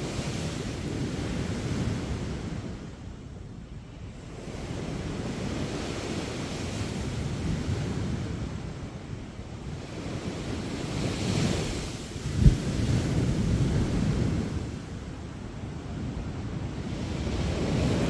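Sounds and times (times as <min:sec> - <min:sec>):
wind on the microphone: 0:00.0 - 0:18.0.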